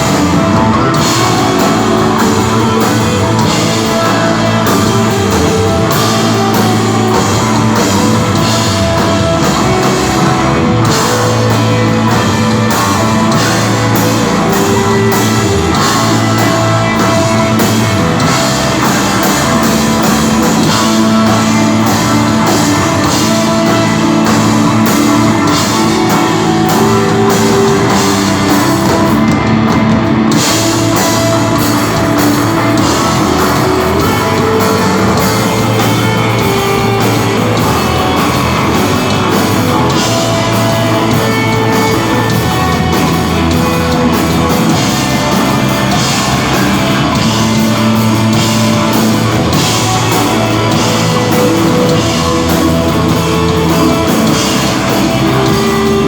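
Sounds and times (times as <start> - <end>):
distorted electric guitar: 0.0 - 56.0
rock band playing: 0.0 - 56.0.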